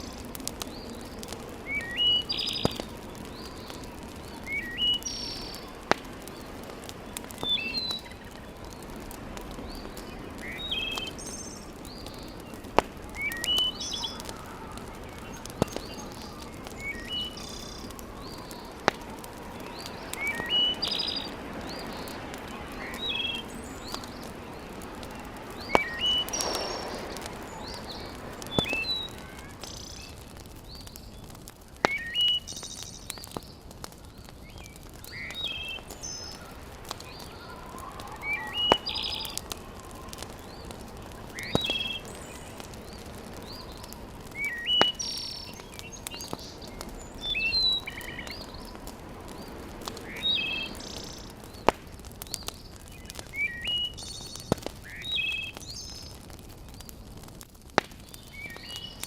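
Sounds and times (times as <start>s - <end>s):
steady hiss: 0.0s - 52.7s
small birds chirping: 0.0s - 59.0s
wood fire crackling: 0.0s - 59.0s.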